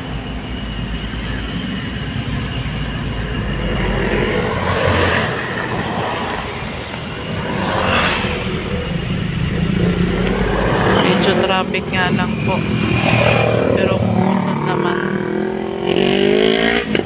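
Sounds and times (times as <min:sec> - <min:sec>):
rushing noise: 0:00.0 - 0:17.0
vehicle engine and road noise: 0:00.0 - 0:17.0.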